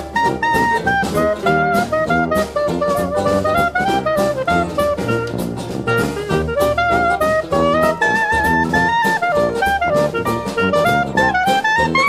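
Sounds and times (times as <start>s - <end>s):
drum kit: 0.0s - 12.0s
horn melody: 0.0s - 12.0s.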